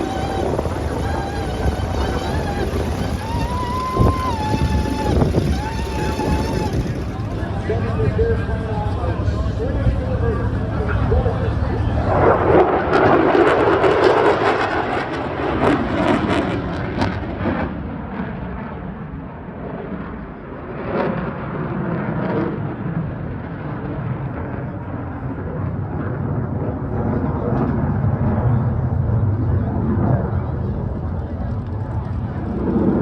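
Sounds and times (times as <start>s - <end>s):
jet aircraft passing: 0.0s - 33.0s.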